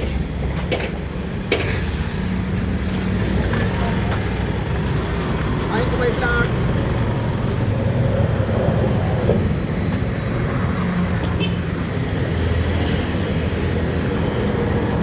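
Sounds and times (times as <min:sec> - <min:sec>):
motor vehicle road rumble: 0:00.0 - 0:15.0.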